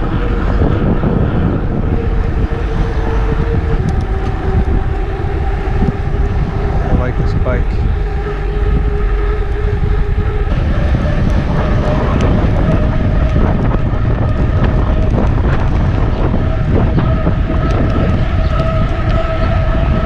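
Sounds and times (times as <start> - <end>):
rolling bike hum: 0.0 - 20.0
wind rushing over microphone: 0.0 - 20.0.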